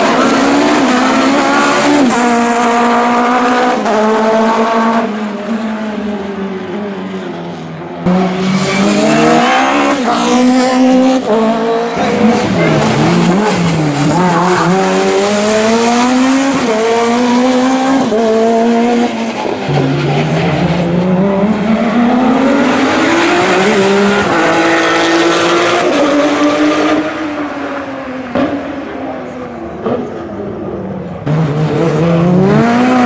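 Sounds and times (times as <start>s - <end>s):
race car engine revving: 0.0s - 7.0s, 8.0s - 33.0s.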